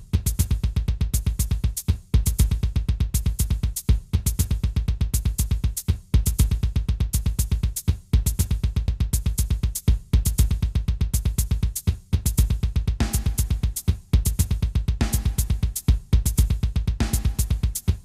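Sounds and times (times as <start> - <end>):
electronic music with pounding beat: 0.0 - 18.0.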